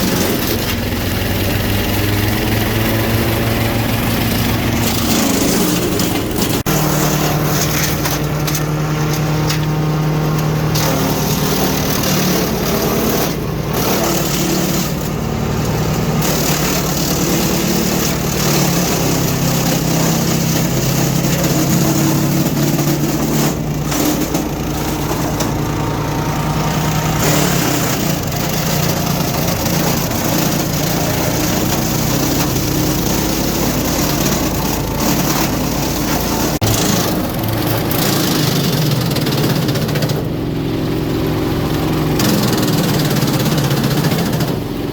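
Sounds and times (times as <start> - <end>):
chipper chipping brush: 0.0 - 44.9
wood chipper engine drone: 0.0 - 44.9.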